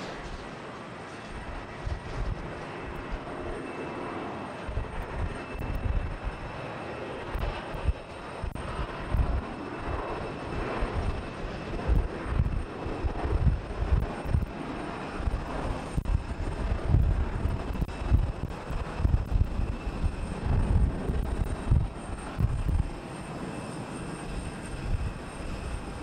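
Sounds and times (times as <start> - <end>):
jet engine hiss and whine: 0.0 - 26.0.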